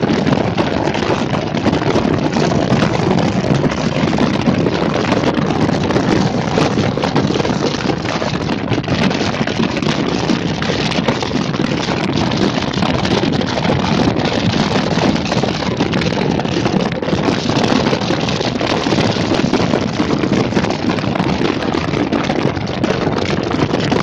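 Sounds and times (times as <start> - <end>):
vehicle road and wind noise: 0.0 - 24.0.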